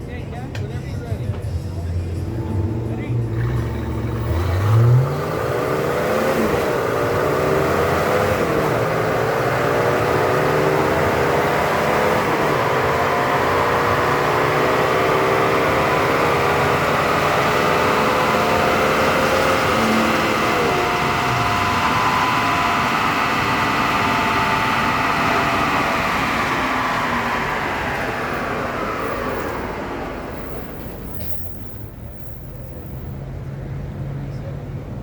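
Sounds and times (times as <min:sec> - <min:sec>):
car engine under load: 0:00.0 - 0:35.0.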